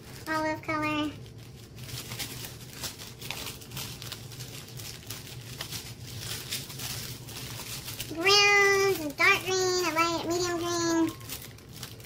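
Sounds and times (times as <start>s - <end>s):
plastic bags crinkling and rustling: 0.0s - 12.0s.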